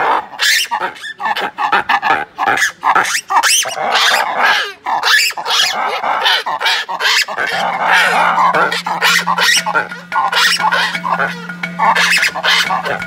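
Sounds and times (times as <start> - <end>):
lemurs barking calls: 0.0 - 13.0.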